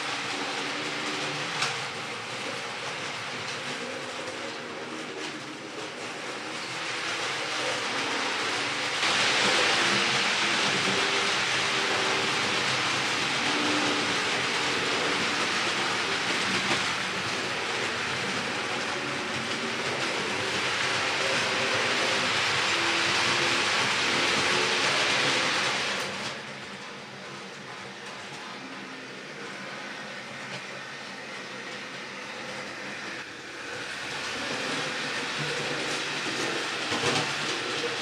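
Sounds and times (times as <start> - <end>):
faint motor whine: 0.0 - 38.0
model train wheels rattling on rails: 0.0 - 38.0.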